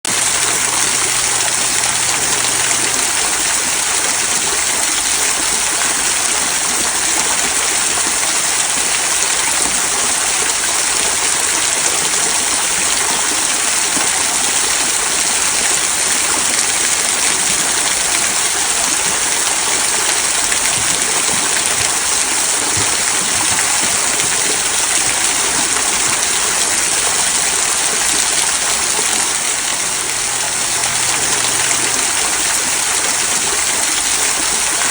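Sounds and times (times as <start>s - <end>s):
small waterfall trickling: 0.1s - 34.9s.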